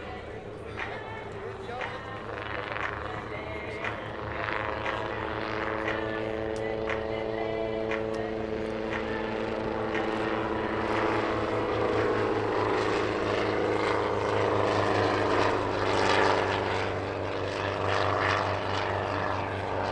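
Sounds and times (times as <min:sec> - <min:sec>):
helicopter engine and rotor drone: 0:00.0 - 0:19.9.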